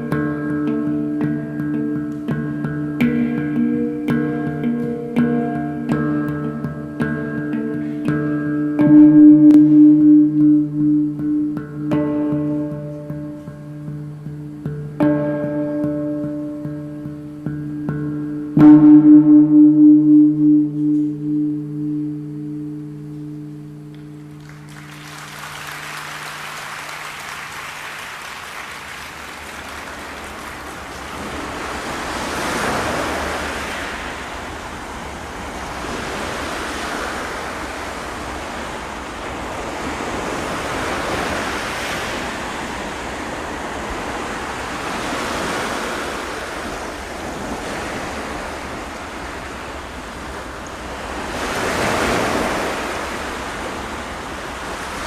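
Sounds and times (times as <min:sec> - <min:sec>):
rushing surf-like instrument wash: 0:00.0 - 0:55.0
singing bowl hum: 0:00.0 - 0:55.0.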